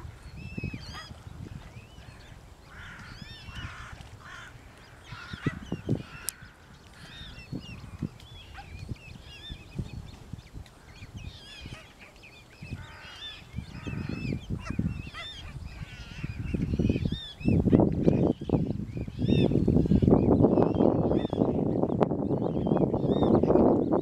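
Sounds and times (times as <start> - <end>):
cygnets peeping: 0.0 - 24.0.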